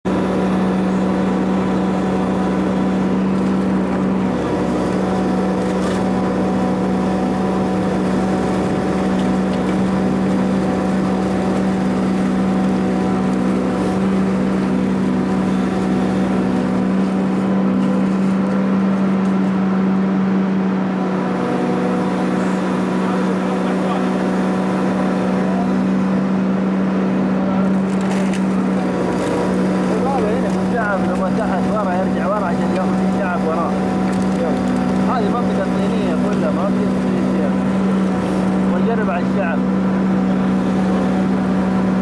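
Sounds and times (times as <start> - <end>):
hydraulic rock grinder drone: 0.0 - 42.0.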